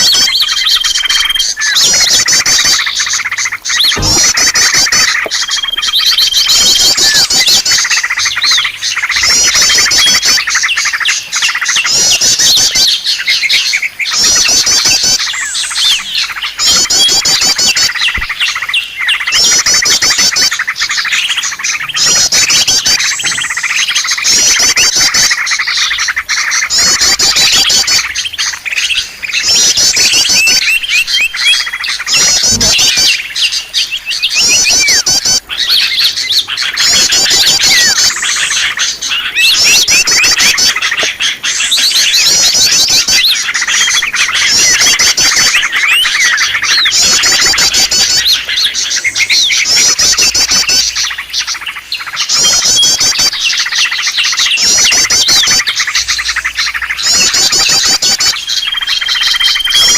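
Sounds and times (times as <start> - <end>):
fast high trilling calls: 0.0 - 59.9
songbirds chattering: 0.0 - 59.9.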